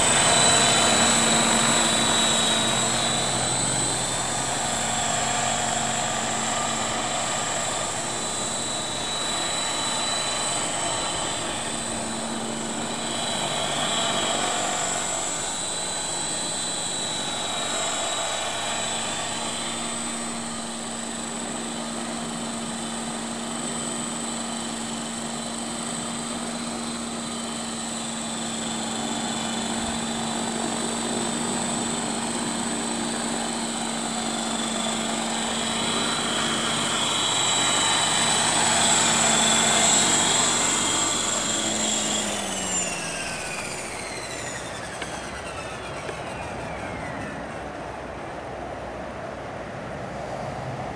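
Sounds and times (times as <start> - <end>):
model helicopter motor whine: 0.0 - 50.9.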